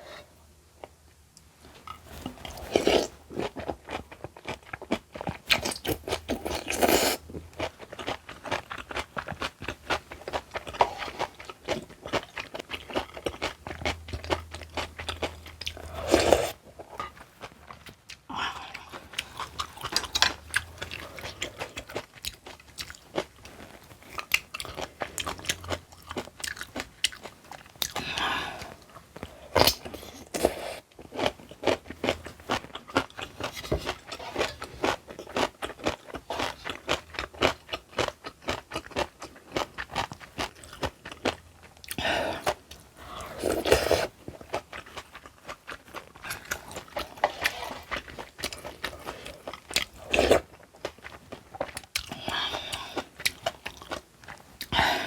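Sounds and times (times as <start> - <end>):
crunchy chewing: 1.8 - 55.0.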